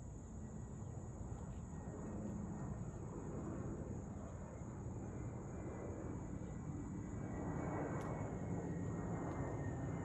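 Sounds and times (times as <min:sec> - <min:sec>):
jet airliner passing overhead: 0:00.0 - 0:10.0.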